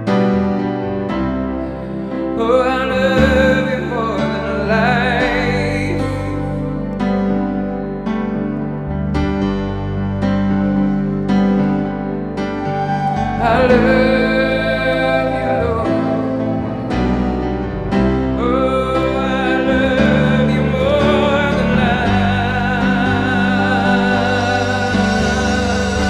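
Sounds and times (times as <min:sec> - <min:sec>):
sustained instrumental chords: 0:00.0 - 0:26.0.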